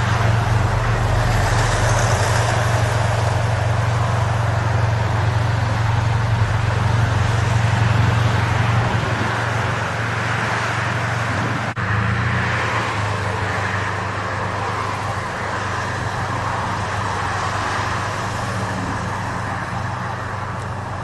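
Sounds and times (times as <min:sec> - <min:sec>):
engine drone with hiss: 0:00.0 - 0:21.0.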